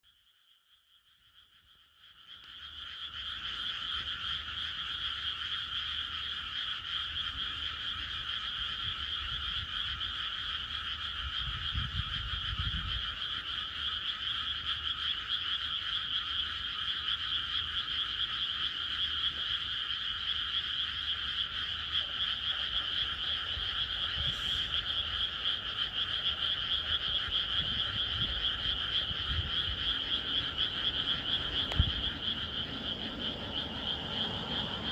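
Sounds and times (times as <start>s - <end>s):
frogs croaking: 0.0s - 34.9s.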